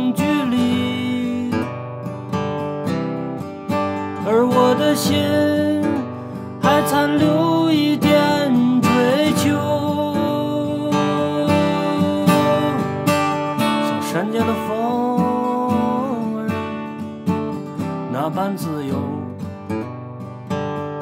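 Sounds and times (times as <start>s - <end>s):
acoustic guitar strummed: 0.0s - 21.0s.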